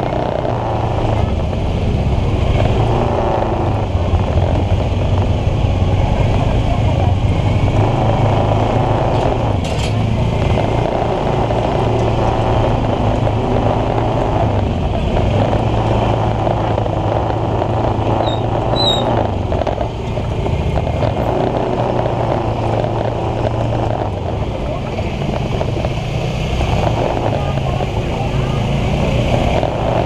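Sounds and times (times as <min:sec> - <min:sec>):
motor scooter engine running: 0:00.0 - 0:30.0.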